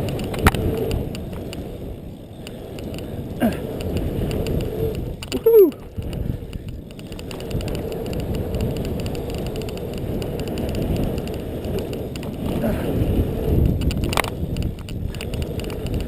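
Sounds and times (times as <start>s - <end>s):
bike tyres rumbling: 0.0s - 16.0s.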